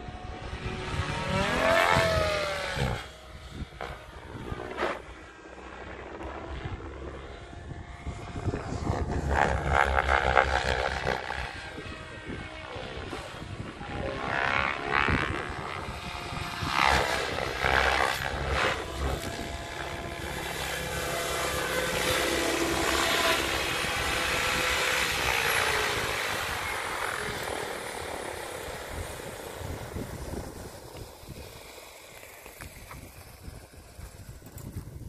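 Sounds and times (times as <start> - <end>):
electric motor whining: 0.0 - 35.0
rotor blades swishing: 0.4 - 35.0.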